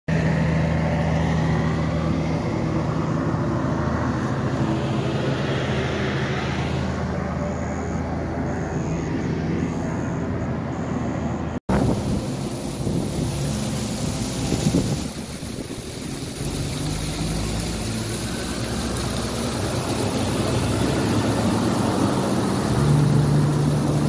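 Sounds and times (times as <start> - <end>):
wind and road noise: 0.1 - 24.0.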